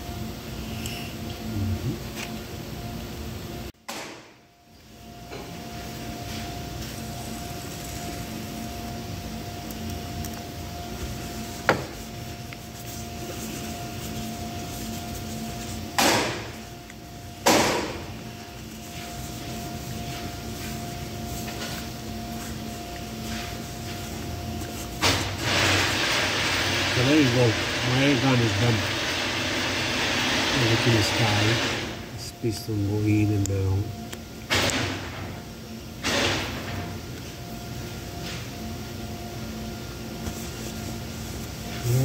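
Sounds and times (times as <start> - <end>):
workshop machine hum: 0.0 - 42.0.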